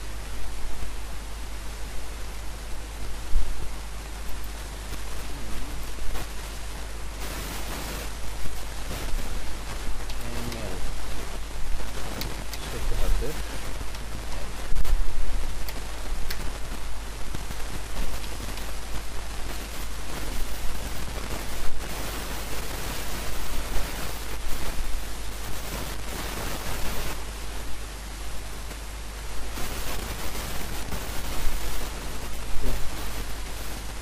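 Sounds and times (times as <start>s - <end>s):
microphone hiss: 0.0s - 34.0s.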